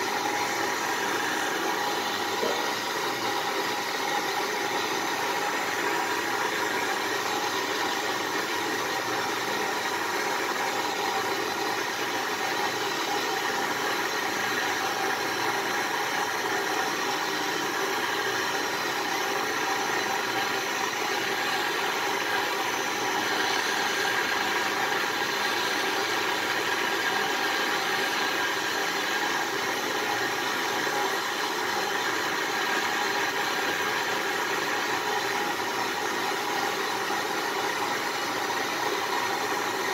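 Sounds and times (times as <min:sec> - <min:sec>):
butane torch flame hissing: 0:00.0 - 0:36.5.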